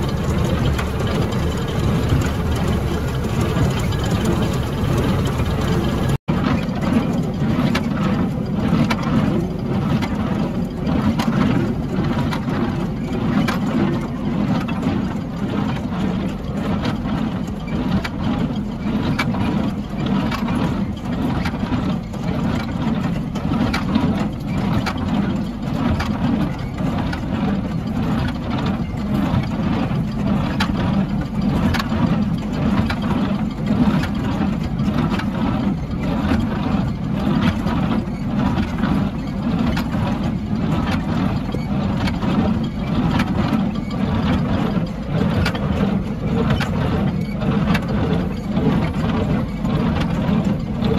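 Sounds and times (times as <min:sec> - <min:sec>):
hay baler clacking: 0:00.0 - 0:50.9
tractor engine drone: 0:00.0 - 0:50.9.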